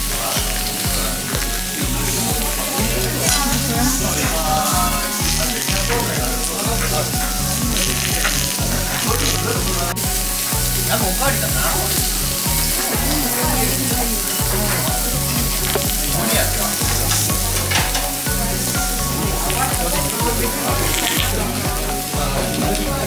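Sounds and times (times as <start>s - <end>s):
background music with bass line: 0.0s - 23.0s
meat sizzling on a grill: 0.0s - 23.0s.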